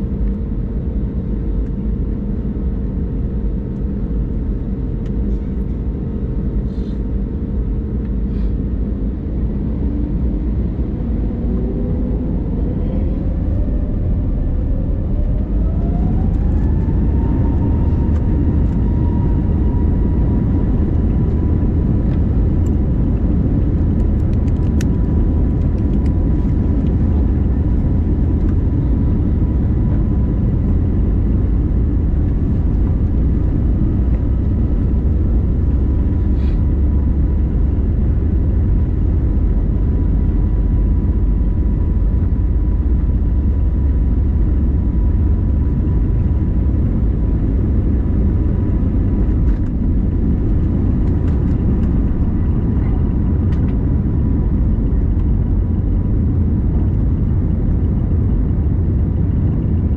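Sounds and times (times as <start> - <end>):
aircraft cabin engine rumble: 0.0 - 59.9
faint engine whine: 0.0 - 59.9.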